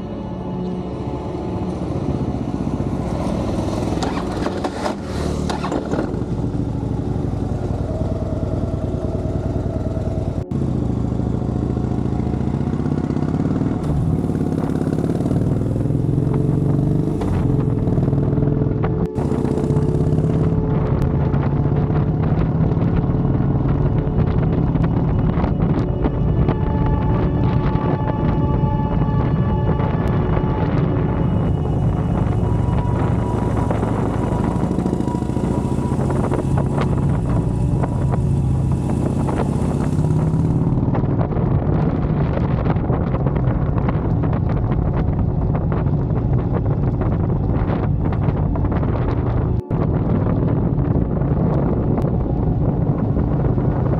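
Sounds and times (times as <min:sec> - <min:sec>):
motorcycle engine running: 0:00.4 - 0:53.9.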